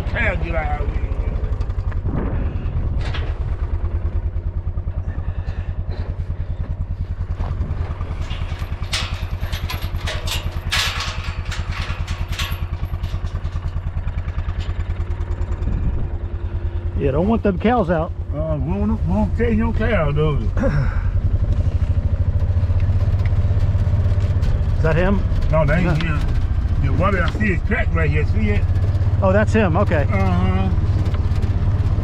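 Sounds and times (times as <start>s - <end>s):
clattering and rattling: 0.0s - 16.9s, 21.2s - 32.0s
vehicle engine throbbing: 0.0s - 32.0s.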